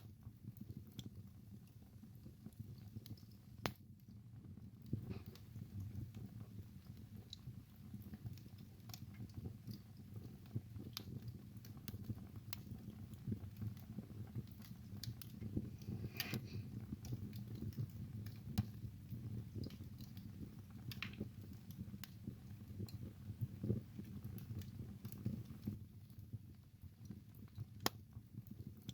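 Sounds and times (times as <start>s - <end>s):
fire crackling and popping: 0.0s - 28.9s
wood fire rumbling: 0.1s - 28.9s.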